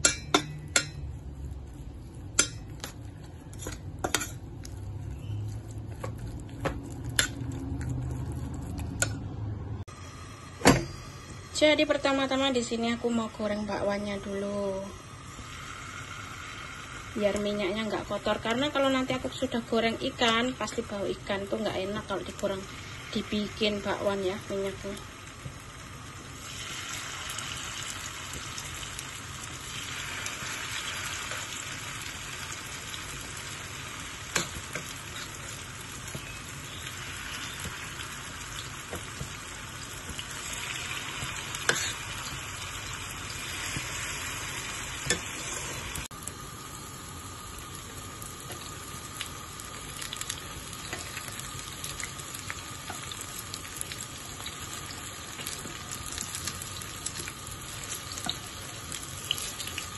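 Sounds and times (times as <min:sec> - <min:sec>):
batter sizzling in hot oil: 0:00.0 - 0:09.3, 0:09.9 - 0:59.9.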